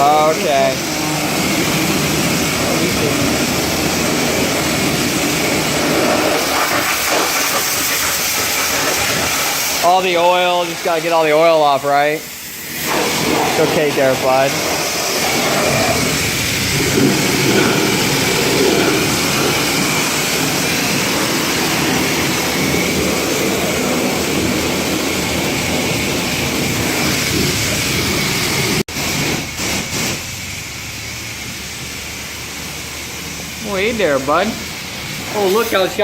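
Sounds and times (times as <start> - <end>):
pressure washer spraying water: 0.0 - 36.0.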